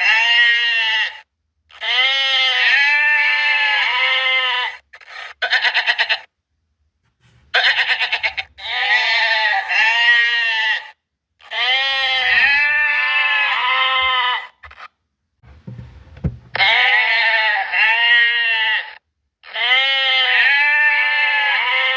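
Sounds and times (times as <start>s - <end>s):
goats bleating: 0.0s - 6.3s, 7.6s - 14.9s, 16.6s - 21.9s.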